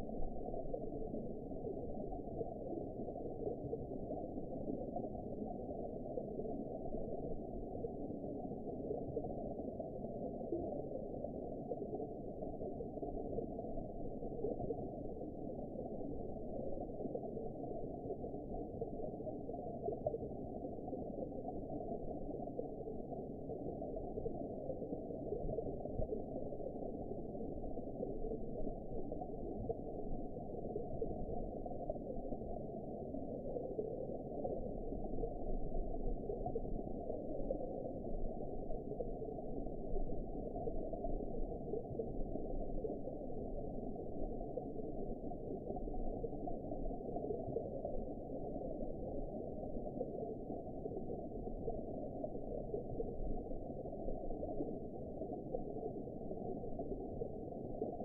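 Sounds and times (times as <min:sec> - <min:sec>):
muffled underwater rush: 0:00.0 - 0:58.0.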